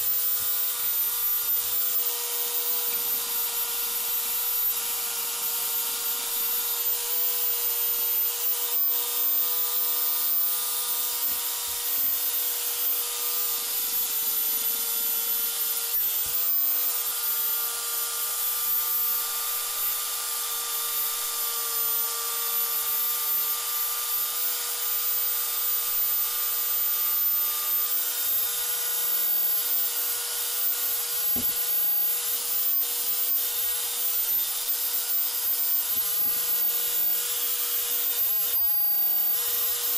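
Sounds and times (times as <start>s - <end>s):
belt sander motor whine: 0.0s - 39.9s.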